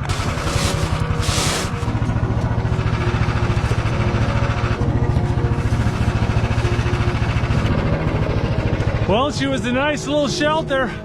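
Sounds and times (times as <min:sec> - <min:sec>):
engine running with rapid pulse: 0:00.0 - 0:11.0.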